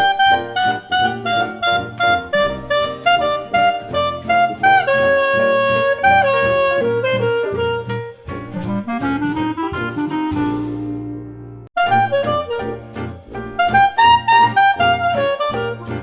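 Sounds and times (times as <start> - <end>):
jazz instrumental music: 0.0 - 16.0.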